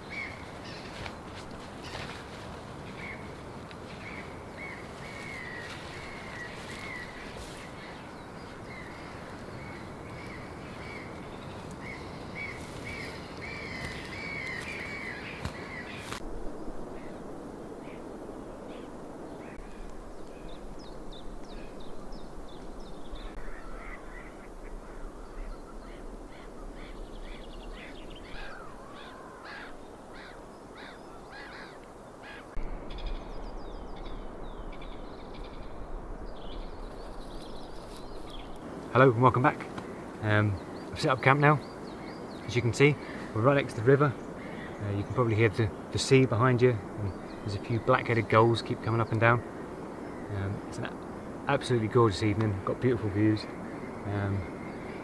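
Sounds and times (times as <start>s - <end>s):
steady outdoor rush: 0.0s - 55.0s
wild birds calling: 0.0s - 55.0s.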